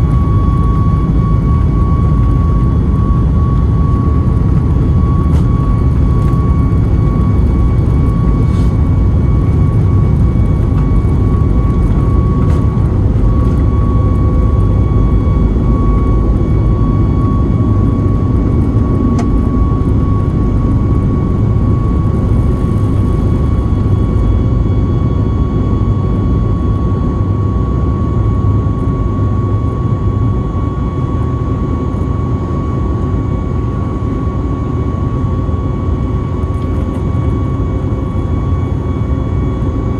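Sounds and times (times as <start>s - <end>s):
jet engine cabin rumble: 0.0s - 39.9s
jet engine whine: 0.0s - 39.9s.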